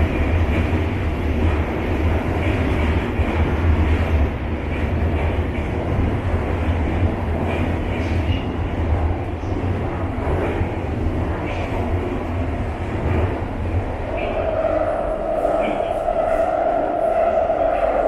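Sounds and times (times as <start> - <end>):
train deep rumble: 0.0 - 18.0.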